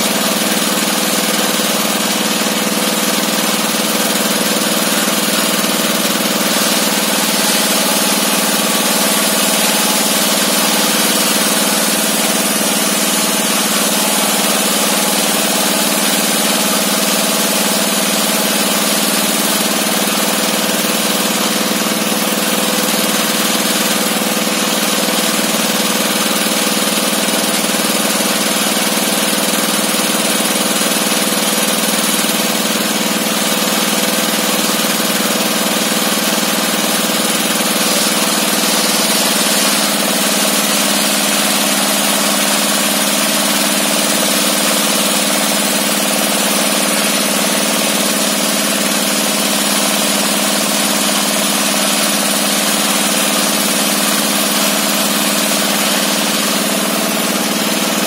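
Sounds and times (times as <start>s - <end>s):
circular saw and engine drone: 0.0s - 58.0s.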